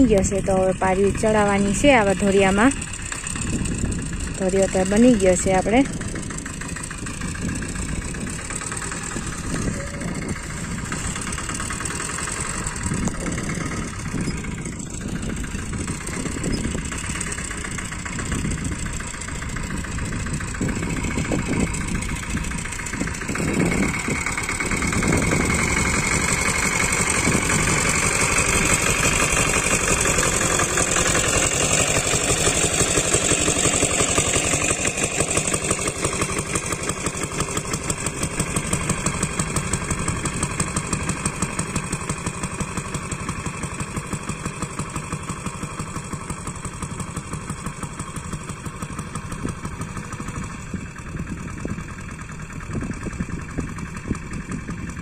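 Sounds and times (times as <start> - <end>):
small tractor engine running: 0.0 - 55.0.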